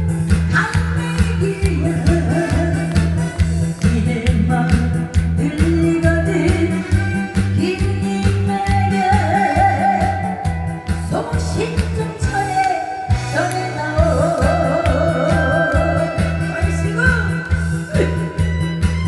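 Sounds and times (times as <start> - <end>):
karaoke backing track: 0.0 - 19.0
woman singing into microphone: 0.4 - 18.3.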